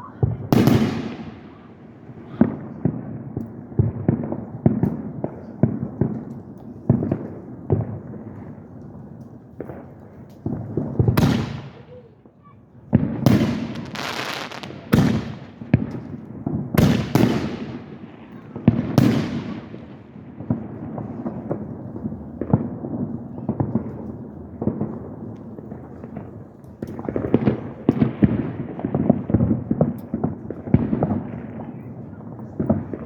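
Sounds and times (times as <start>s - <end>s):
fireworks booming: 0.0s - 8.6s, 9.6s - 12.1s, 12.9s - 33.0s
fireworks crackling pops: 0.0s - 12.2s, 12.9s - 33.0s.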